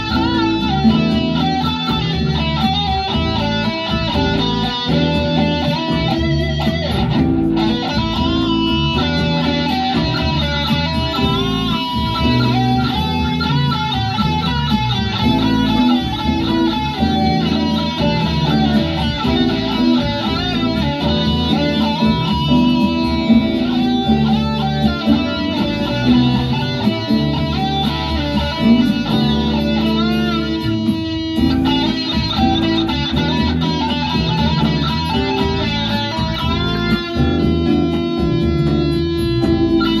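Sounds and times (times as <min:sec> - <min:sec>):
electric guitar lead: 0:00.0 - 0:40.0.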